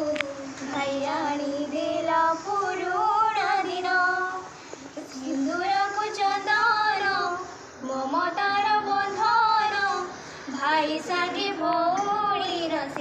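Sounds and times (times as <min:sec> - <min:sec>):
girl singing slow melody: 0:00.0 - 0:13.0.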